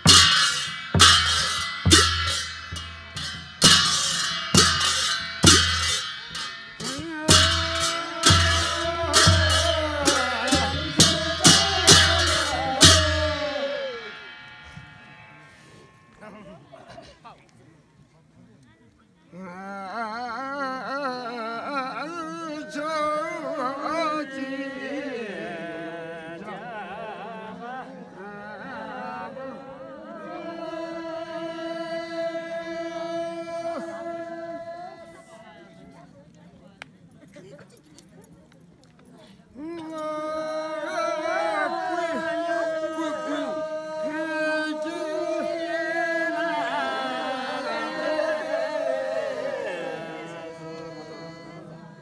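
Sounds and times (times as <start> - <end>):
person singing chant-like melody: 0.0 - 14.8, 19.3 - 36.1, 39.5 - 52.0.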